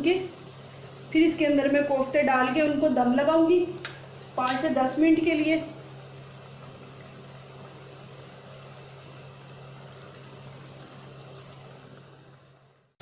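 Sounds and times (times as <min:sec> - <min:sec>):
sauce sizzling and bubbling: 0:00.3 - 0:12.8.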